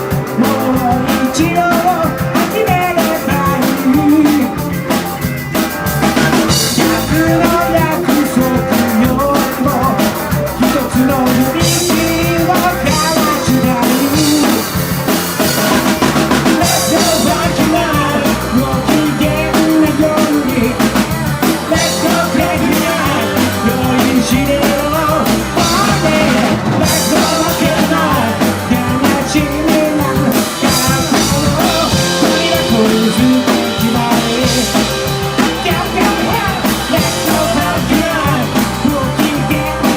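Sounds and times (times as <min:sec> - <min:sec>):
drum kit beat: 0:00.0 - 0:39.9
rock and roll band playing: 0:00.0 - 0:39.9.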